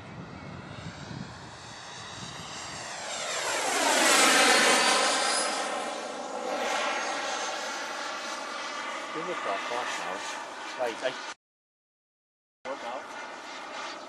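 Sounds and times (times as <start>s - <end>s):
model jet turbine flying past: 0.0s - 11.4s, 12.7s - 14.0s.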